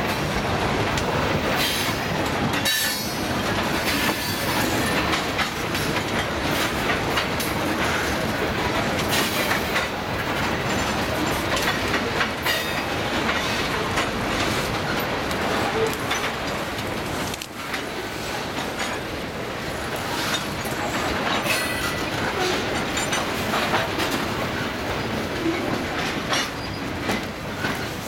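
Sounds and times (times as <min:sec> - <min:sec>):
train wheels rumbling: 0:00.0 - 0:28.0
wheels clicking over rail joints: 0:00.0 - 0:28.0.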